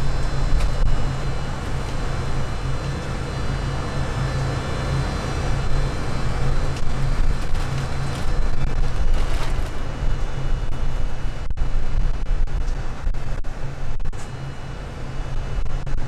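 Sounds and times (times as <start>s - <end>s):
low rumble and hum: 0.0s - 16.0s.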